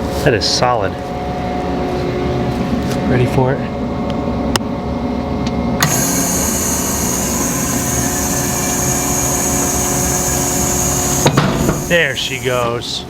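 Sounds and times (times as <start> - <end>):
baler machine hum: 0.0 - 13.0.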